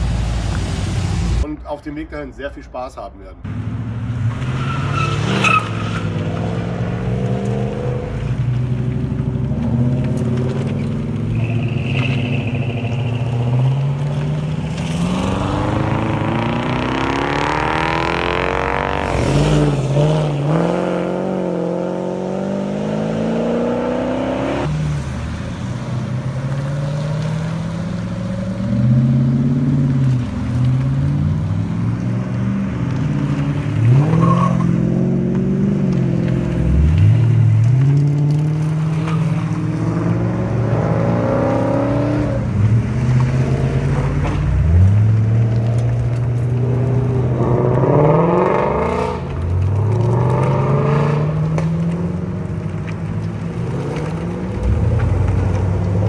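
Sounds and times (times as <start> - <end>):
car engines rumbling: 0.0 - 56.0.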